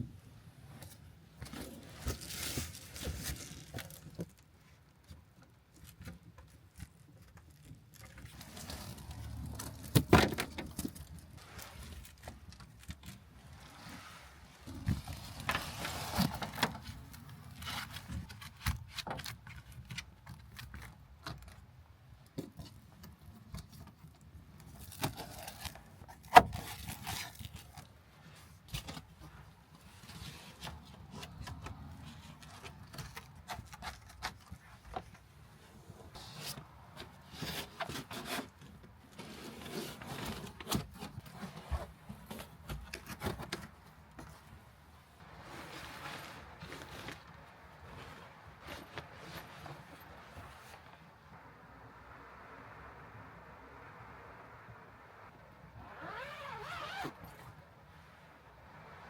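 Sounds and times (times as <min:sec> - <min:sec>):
objects scraping and rustling: 0:00.7 - 0:04.5, 0:05.8 - 0:21.6, 0:22.4 - 0:51.1.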